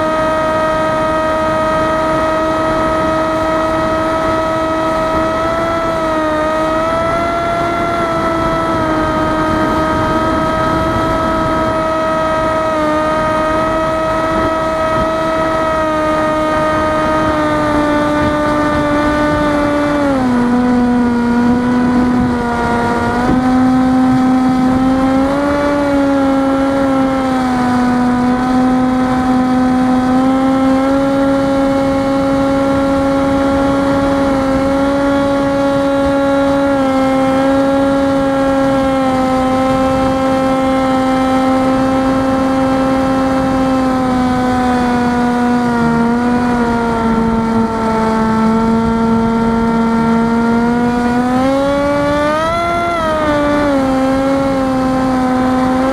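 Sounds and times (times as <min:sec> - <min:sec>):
electric motor and propeller droning: 0:00.0 - 0:55.9.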